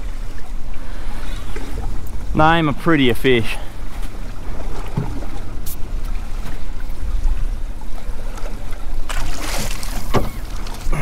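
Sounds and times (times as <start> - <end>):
water washing around boat: 0.0 - 11.0.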